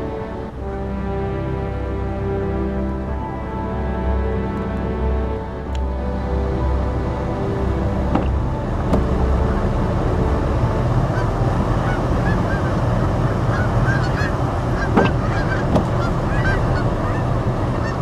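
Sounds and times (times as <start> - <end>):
geese honking: 0.0 - 18.0
low background rumble: 0.0 - 18.0.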